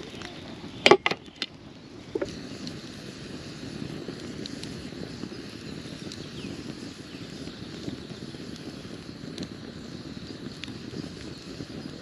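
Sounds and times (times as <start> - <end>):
flames rushing: 0.0 - 12.0
logs crackling: 0.0 - 12.0.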